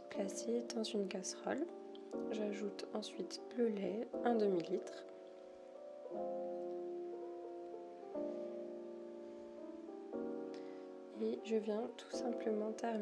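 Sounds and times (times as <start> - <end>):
slow sustained chords music: 0.0 - 13.0.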